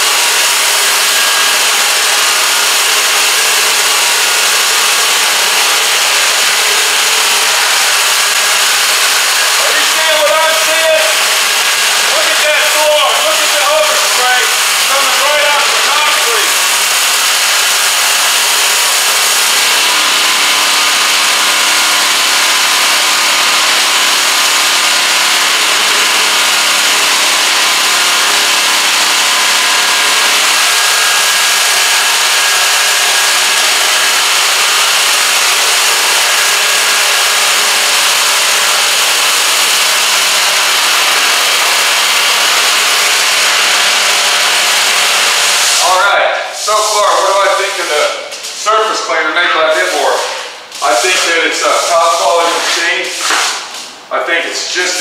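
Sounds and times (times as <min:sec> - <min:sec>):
high-pressure water jets hissing: 0:00.0 - 0:53.9.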